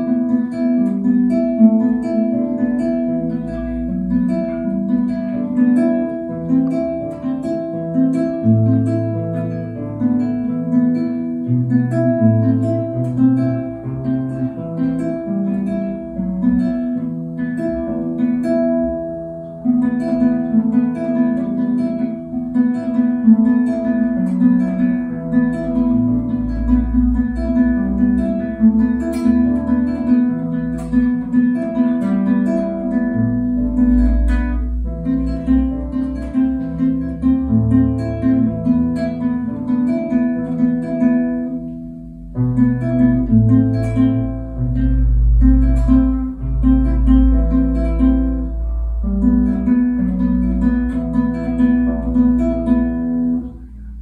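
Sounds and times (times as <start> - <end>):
classical guitar fingerstyle: 0.0 - 54.0.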